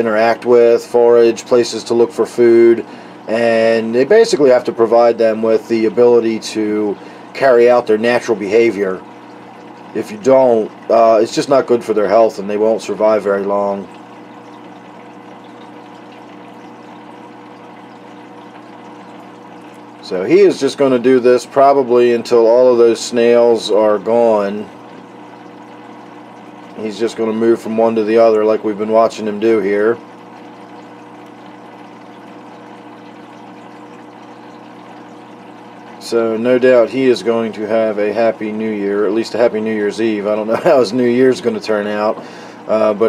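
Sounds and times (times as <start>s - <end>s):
aquarium pump humming: 0.0s - 43.0s.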